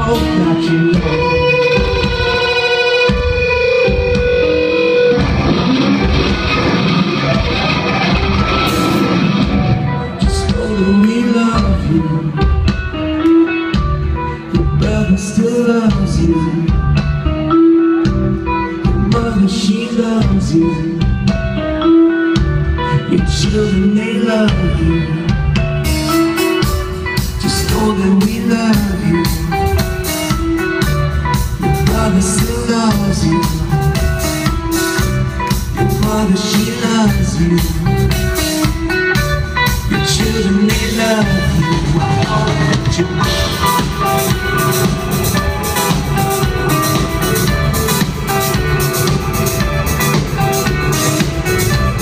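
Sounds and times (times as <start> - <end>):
drum kit and cymbals: 0.0 - 15.2, 24.6 - 52.0
bass guitar: 0.0 - 52.0
electric guitar: 0.0 - 52.0
person singing: 0.0 - 52.0.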